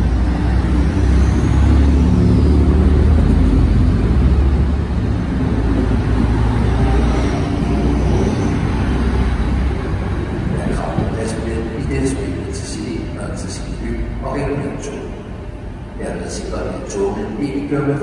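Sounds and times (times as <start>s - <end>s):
diesel engine drone: 0.0s - 18.0s
train wheels rushing: 0.0s - 18.0s.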